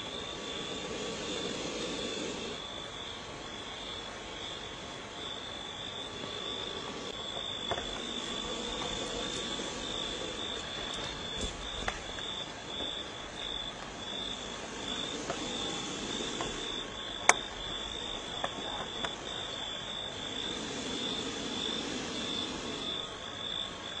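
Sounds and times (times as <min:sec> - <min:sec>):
insects chirring: 0:00.0 - 0:24.0
low hiss: 0:00.0 - 0:24.0.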